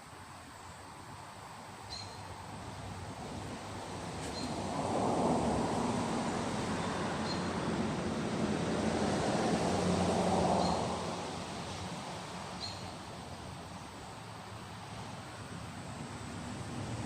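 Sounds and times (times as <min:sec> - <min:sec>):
broad rushing noise: 0:01.0 - 0:17.0.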